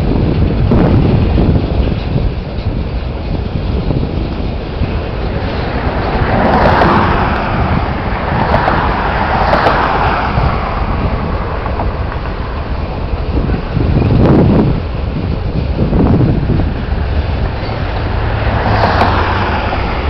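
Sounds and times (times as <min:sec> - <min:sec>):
train wheels rumbling on track: 0:00.0 - 0:20.0
wind buffeting microphone: 0:00.0 - 0:20.0.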